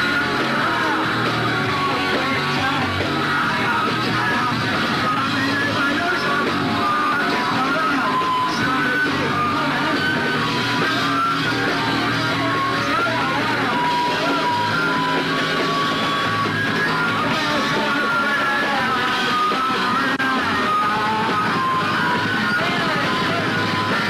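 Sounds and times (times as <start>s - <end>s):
punk rock music: 0.0s - 24.0s.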